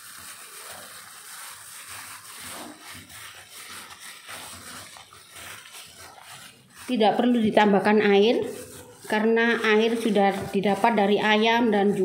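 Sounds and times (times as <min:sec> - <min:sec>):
wet rubbing and stirring: 0:00.0 - 0:12.0.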